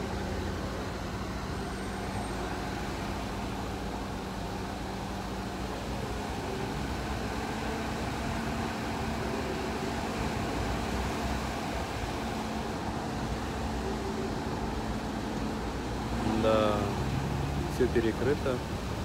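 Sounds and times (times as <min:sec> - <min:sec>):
car traffic rumble: 0:00.0 - 0:19.0.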